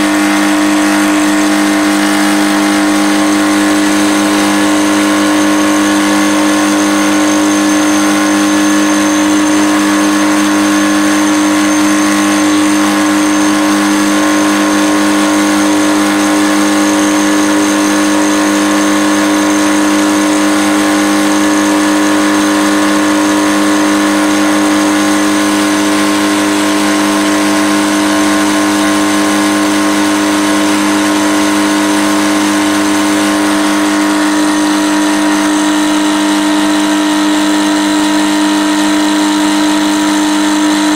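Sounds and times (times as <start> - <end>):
drill press milling steel: 0.0 - 40.9.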